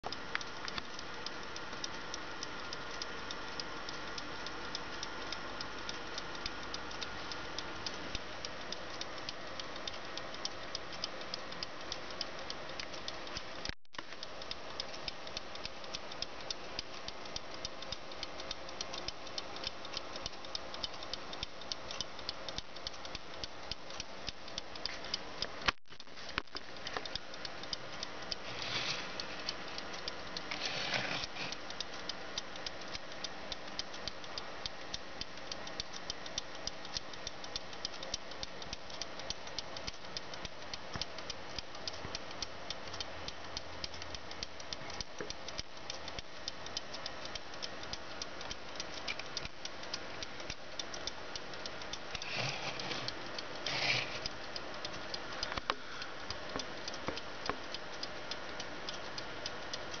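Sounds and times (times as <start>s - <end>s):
alarm clock ticking: 0.0s - 60.0s.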